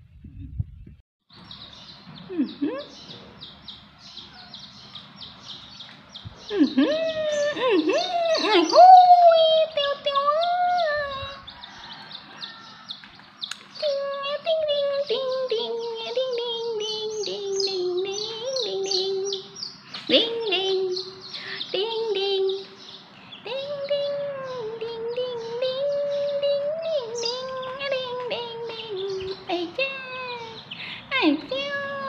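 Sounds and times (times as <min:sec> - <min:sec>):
chicks peeping: 0:01.3 - 0:32.0.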